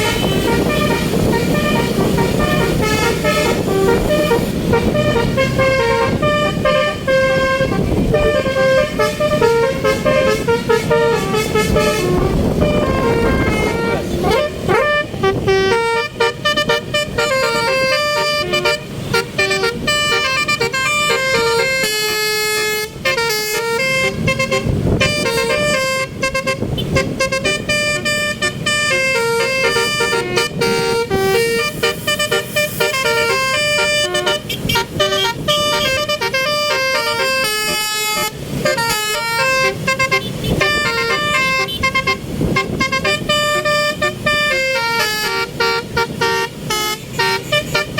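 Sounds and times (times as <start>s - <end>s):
multi-tone bus horn melody: 0.0s - 47.9s
road and engine noise: 0.0s - 47.9s.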